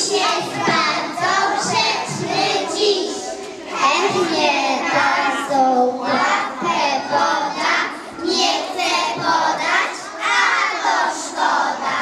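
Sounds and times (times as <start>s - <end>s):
girl chanting into a microphone: 0.0s - 12.0s.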